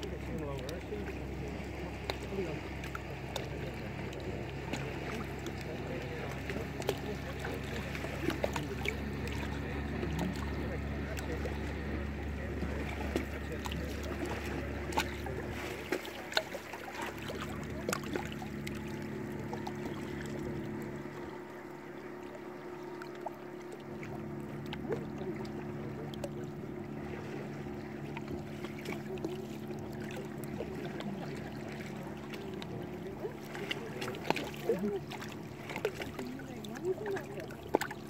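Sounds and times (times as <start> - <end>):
steady low hum: 0.0 - 38.0
water lapping against rocks: 0.0 - 38.0.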